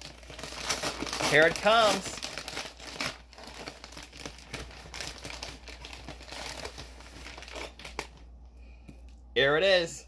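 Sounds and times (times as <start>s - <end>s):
paper mailer crinkling: 0.0s - 8.2s.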